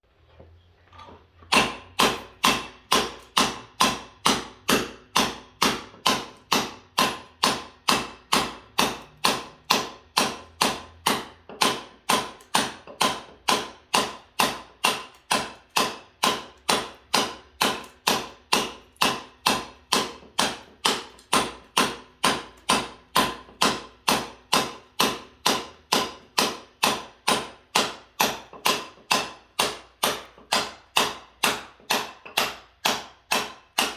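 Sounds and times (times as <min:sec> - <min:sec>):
hammer blows ringing: 0:01.5 - 0:33.9.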